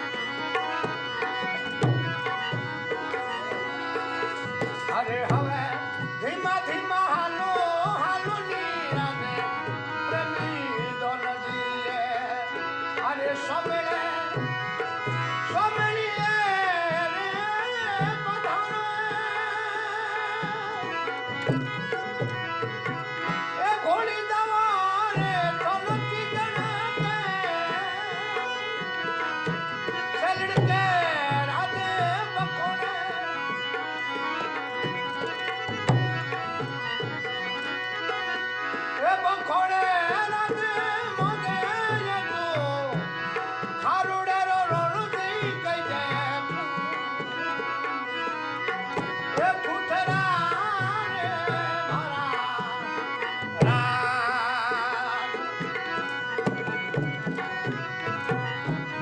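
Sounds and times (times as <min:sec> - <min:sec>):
harmonium: 0:00.0 - 0:59.0
man singing: 0:00.0 - 0:59.0.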